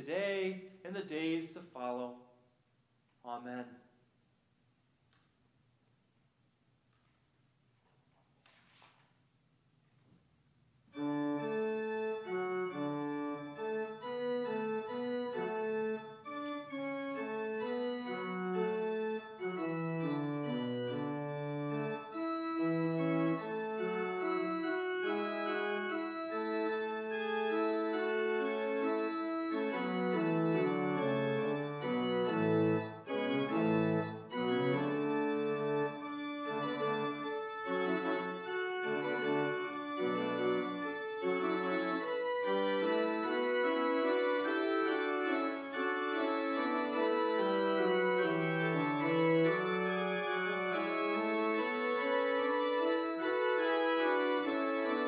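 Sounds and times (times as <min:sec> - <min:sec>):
church organ playing: 0:10.9 - 0:55.0.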